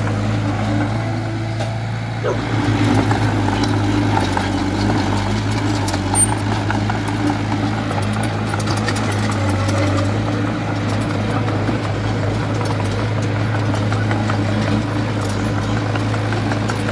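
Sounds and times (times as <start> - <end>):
bulldozer diesel engine running: 0.0 - 16.9.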